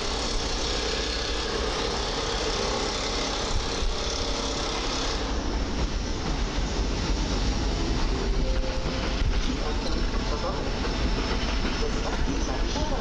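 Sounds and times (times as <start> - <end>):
electric train rolling past: 0.0 - 13.0.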